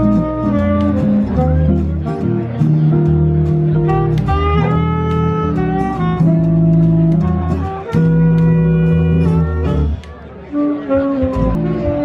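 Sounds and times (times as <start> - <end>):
saxophone long notes: 0.0 - 2.2, 3.7 - 12.0
guitar: 0.0 - 12.0
upright bass: 0.0 - 12.0.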